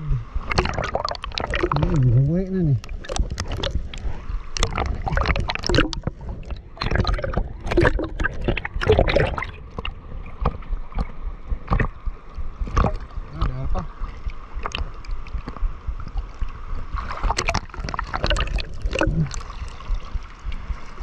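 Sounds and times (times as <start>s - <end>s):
water gurgling: 0.0s - 21.0s
water sloshing and splashing: 0.0s - 21.0s.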